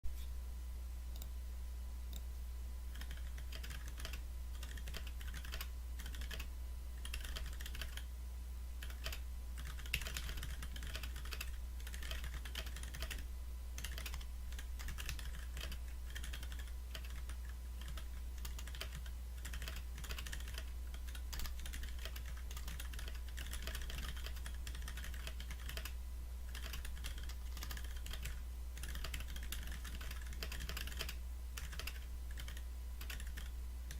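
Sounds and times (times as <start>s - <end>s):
mechanical keyboard typing: 2.9s - 8.0s, 8.8s - 13.2s, 13.8s - 33.9s.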